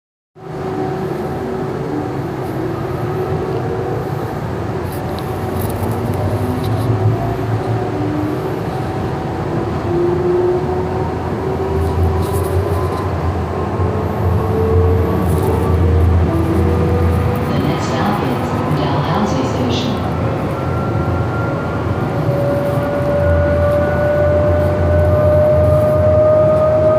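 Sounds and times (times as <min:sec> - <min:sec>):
train rumble with motor tones: 0:00.4 - 0:26.9.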